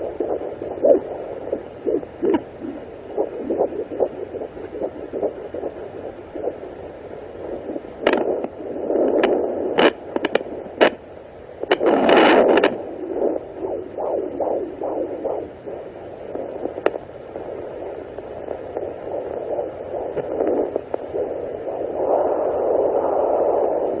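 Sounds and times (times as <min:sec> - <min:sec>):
fetal heartbeat pulsing: 0:00.0 - 0:24.0.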